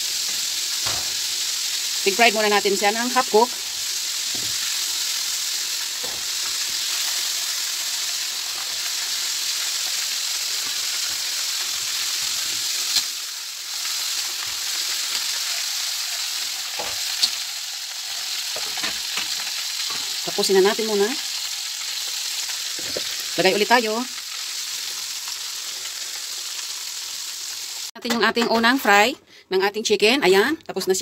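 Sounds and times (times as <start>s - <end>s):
chicken deep-frying in oil: 0.0s - 27.9s.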